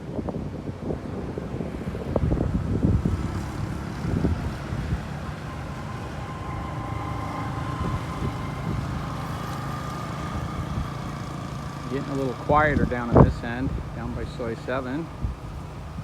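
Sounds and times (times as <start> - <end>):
vehicle passing: 1.1 - 16.0.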